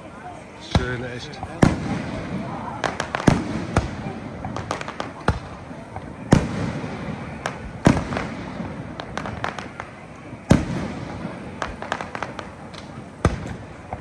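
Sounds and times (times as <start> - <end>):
fireworks bursting bangs: 0.0 - 14.0
scattered firework cracks: 0.7 - 14.0.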